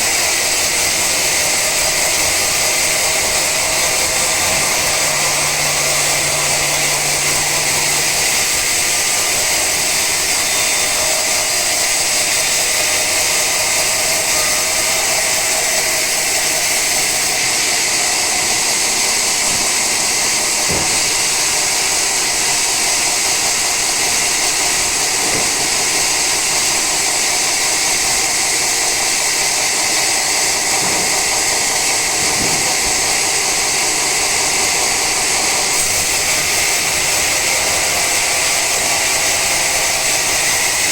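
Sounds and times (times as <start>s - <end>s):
sawmill saw cutting log: 0.0s - 40.9s.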